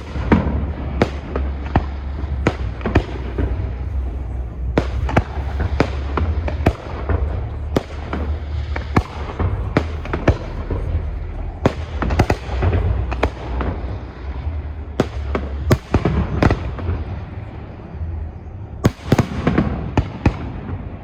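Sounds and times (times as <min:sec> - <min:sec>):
fireworks bangs: 0:00.0 - 0:21.0
steady low rumble: 0:00.0 - 0:21.0.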